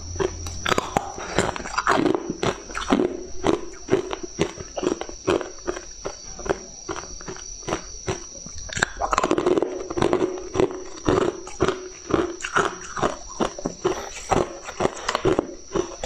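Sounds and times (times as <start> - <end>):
steady high-pitched whine: 0.0 - 16.0
ice crunching while chewed: 0.2 - 16.0.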